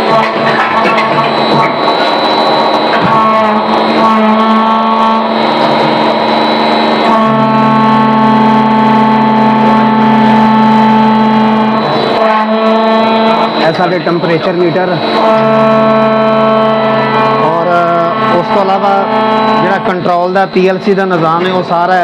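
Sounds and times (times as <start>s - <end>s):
hydraulic pump motor whine: 0.0s - 22.0s
low hum: 0.0s - 22.0s.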